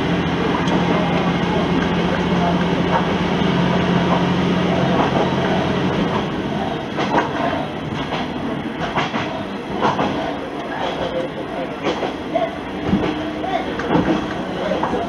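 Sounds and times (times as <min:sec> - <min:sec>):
railcar engine drone: 0:00.0 - 0:15.0
train wheels clicking over rail joints: 0:00.3 - 0:11.2, 0:11.8 - 0:15.0.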